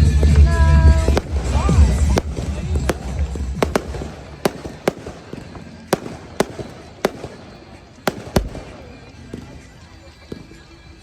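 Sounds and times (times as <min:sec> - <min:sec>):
fireworks cracks and bangs: 0:00.0 - 0:10.6.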